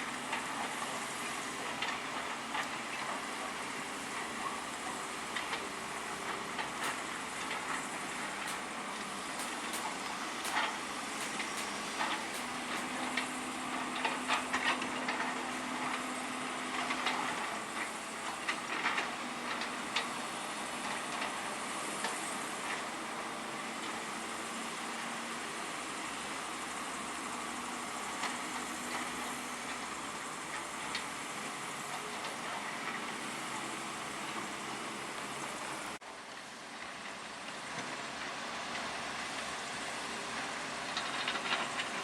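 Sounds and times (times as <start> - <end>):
construction machinery din: 0.0 - 36.0.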